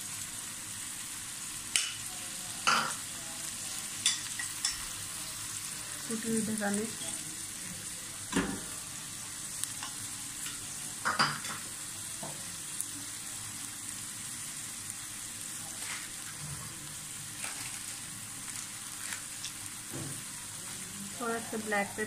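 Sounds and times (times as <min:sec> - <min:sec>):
vegetables sizzling in a pan: 0:00.0 - 0:22.0.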